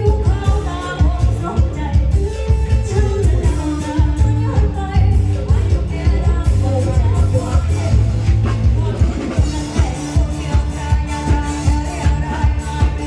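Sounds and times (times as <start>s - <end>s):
electric band playing: 0.0s - 13.0s
person singing: 0.0s - 13.0s.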